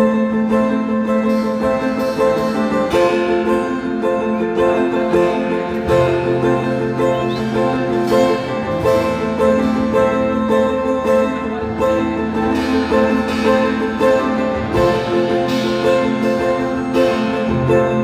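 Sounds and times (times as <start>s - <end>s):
plucked strings instrumental music: 0.0s - 18.0s.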